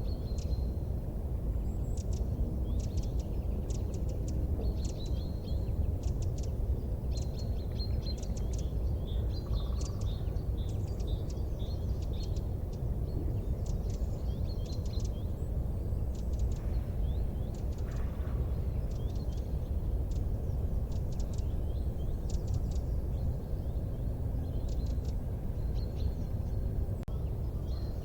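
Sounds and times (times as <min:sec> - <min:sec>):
steady low rumble: 0:00.0 - 0:28.0
small birds chirping: 0:01.6 - 0:28.0.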